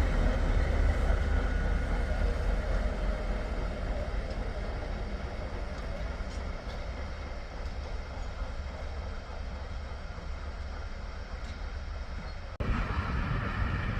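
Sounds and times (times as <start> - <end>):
train rumbling: 0.0 - 13.9.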